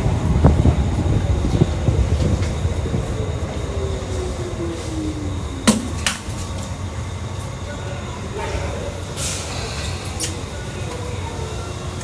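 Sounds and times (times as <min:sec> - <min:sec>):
train motor whine: 0:00.0 - 0:12.0
train wheels rumbling on rail: 0:00.0 - 0:12.0.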